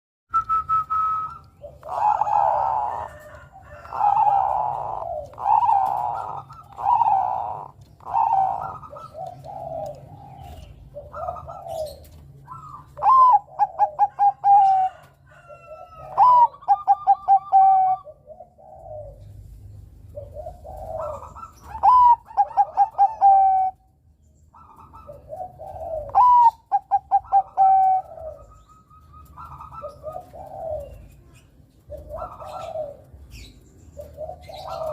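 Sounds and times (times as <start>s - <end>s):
dove cooing: 0.7s - 23.9s, 24.5s - 34.9s.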